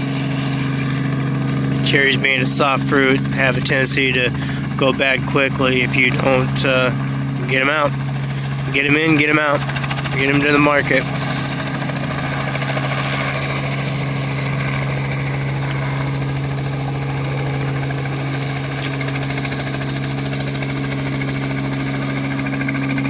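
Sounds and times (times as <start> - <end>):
helicopter rotors chopping: 0.0 - 23.0.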